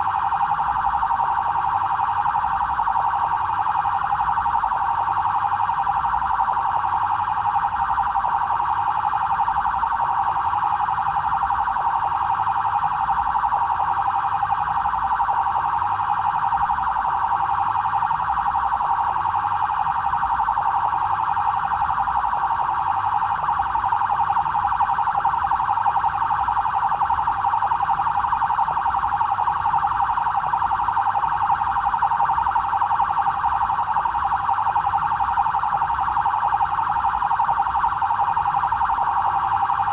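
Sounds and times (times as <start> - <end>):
police siren pulsing: 0.0 - 39.9.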